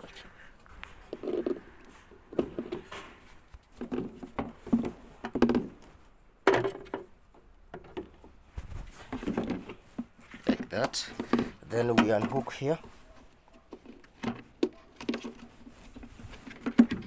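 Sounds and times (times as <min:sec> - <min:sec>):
plastic knocks and clatters: 0:00.9 - 0:12.7, 0:13.6 - 0:17.0.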